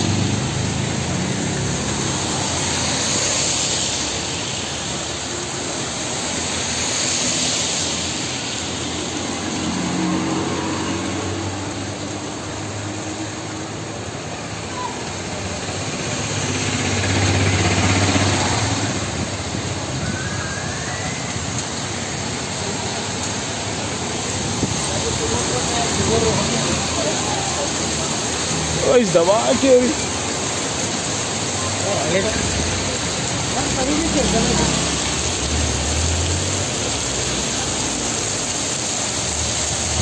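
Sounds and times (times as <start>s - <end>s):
cars passing on wet road: 0.0s - 40.0s
heavy rain pouring: 0.0s - 40.0s.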